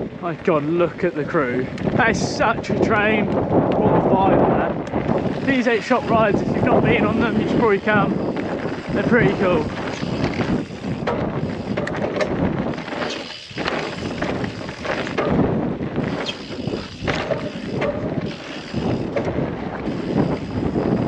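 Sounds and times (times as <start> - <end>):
bike rattling over bumps: 0.0 - 21.0
bike tyres rumbling on dirt: 0.0 - 21.0
wind buffeting microphone: 0.0 - 21.0.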